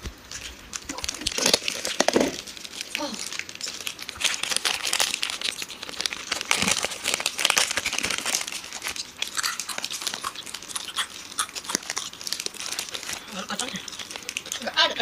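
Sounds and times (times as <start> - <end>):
foil wrappers crinkling: 0.0 - 15.0
chewing and crunching: 0.2 - 15.0.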